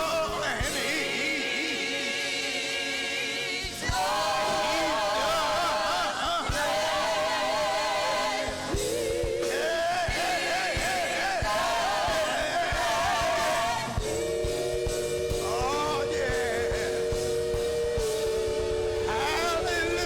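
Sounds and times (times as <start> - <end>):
gospel singing with band: 0.0 - 20.0
steady drum beat: 3.6 - 20.0.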